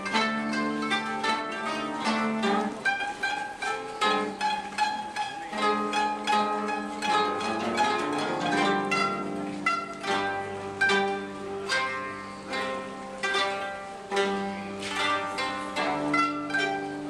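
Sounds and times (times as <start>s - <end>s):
zither ensemble plucking: 0.0s - 17.0s.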